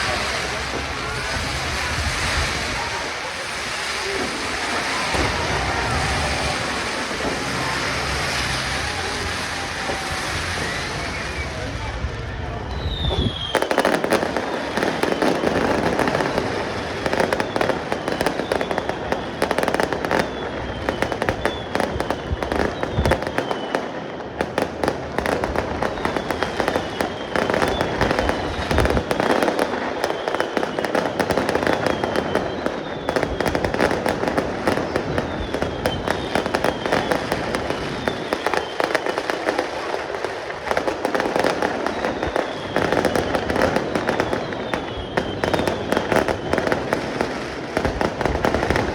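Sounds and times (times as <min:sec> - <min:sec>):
firework whistles falling: 0:00.0 - 0:24.4, 0:25.4 - 0:48.9
fireworks crackling: 0:00.0 - 0:48.9.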